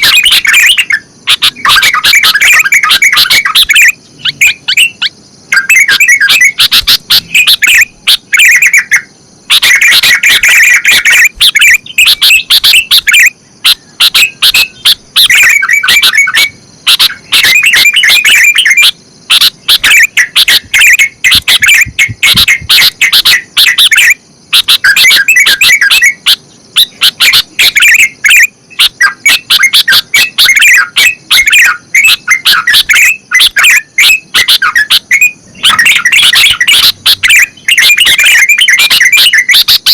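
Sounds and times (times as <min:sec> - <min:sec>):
bulbuls singing loudly: 0:00.0 - 0:39.9.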